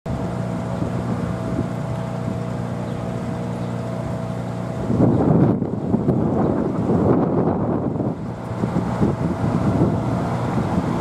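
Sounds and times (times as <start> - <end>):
diesel machinery idling: 0.1 - 11.0
wind buffeting microphone: 0.1 - 11.0.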